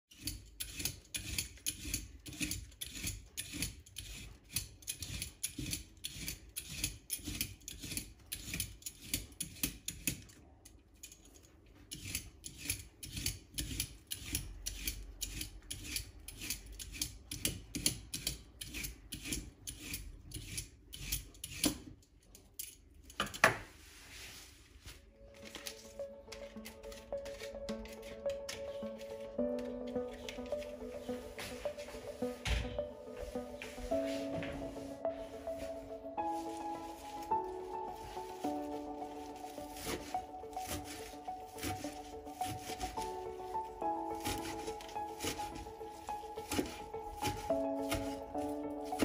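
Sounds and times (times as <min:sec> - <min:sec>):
peeler scraping asparagus: 0:00.1 - 0:10.2, 0:11.8 - 0:22.8, 0:25.3 - 0:49.0.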